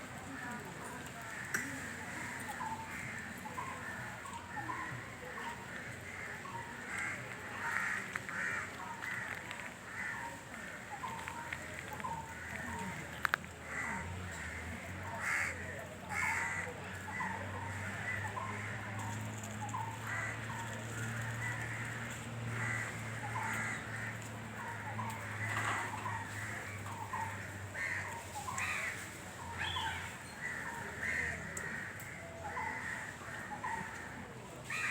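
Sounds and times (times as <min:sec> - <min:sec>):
birds calling: 0:01.2 - 0:34.9.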